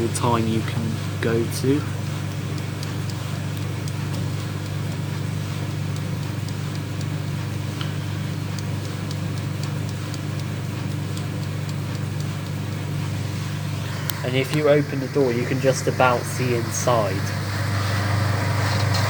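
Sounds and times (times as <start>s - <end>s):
tumble dryer humming: 0.0s - 19.0s.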